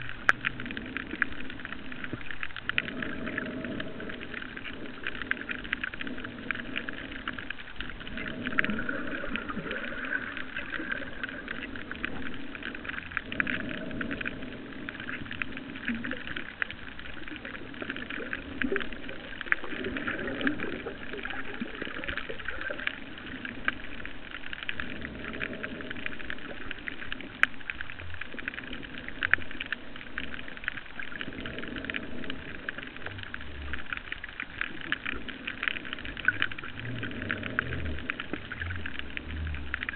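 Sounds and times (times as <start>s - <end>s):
low underwater rushing: 0.0s - 39.9s
underwater crackling hiss: 0.0s - 39.9s.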